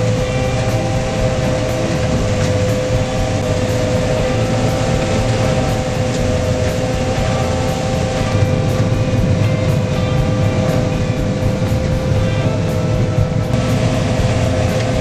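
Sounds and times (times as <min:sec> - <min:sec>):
combine harvester engine drone: 0:00.0 - 0:15.0
high machinery whine: 0:00.0 - 0:15.0.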